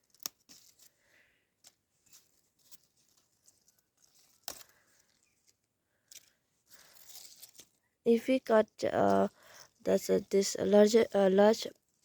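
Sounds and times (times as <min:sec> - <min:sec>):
faint rustling handling noises: 0:00.0 - 0:12.0.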